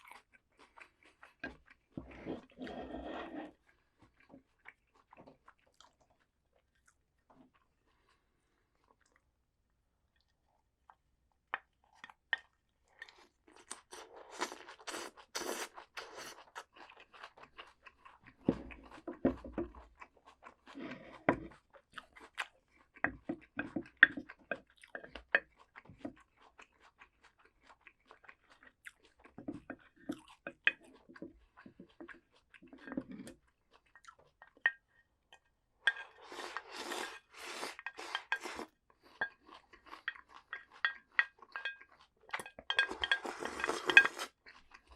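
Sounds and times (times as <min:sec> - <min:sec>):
crunchy vegetable chewing: 0:00.0 - 0:09.2, 0:11.8 - 0:34.7, 0:36.0 - 0:44.9
soft wet chewing: 0:00.0 - 0:44.9.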